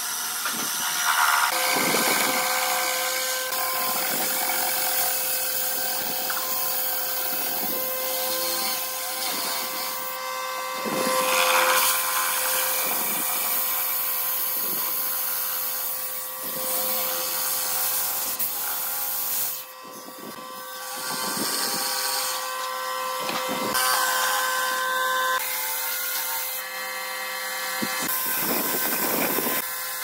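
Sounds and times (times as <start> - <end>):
jigsaw motor whine: 0.0 - 30.0
saw blade rasping through wood: 0.0 - 30.0.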